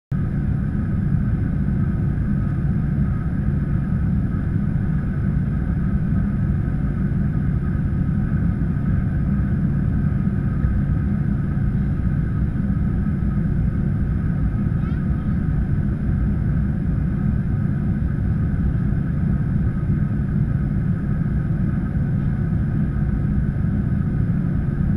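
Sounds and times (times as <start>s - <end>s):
aircraft engines rumbling: 0.1s - 24.9s
faint steady whine: 0.2s - 24.9s.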